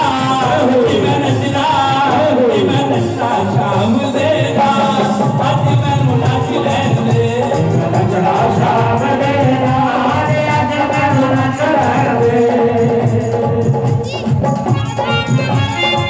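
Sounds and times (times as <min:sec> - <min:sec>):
devotional singing with instruments: 0:00.0 - 0:16.0.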